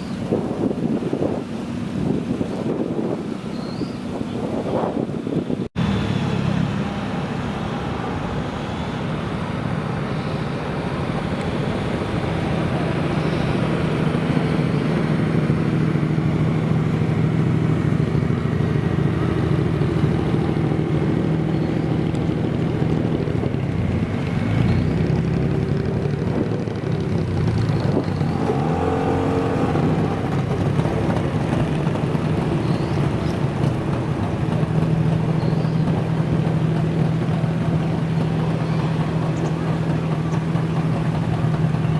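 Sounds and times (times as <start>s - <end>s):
car engines running: 0.0s - 41.9s.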